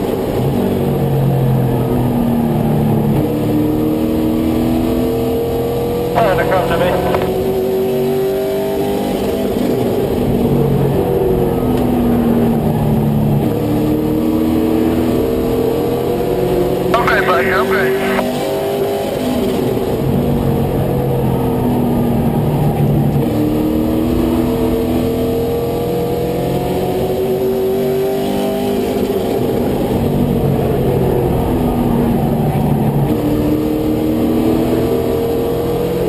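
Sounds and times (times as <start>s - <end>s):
truck engine racing: 0.2s - 36.0s.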